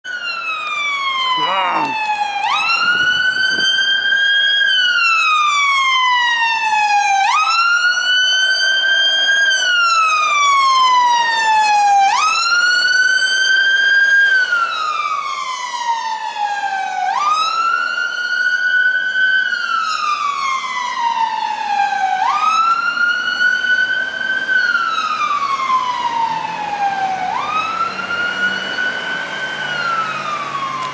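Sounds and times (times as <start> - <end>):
fire engine siren wailing: 0.0 - 30.9.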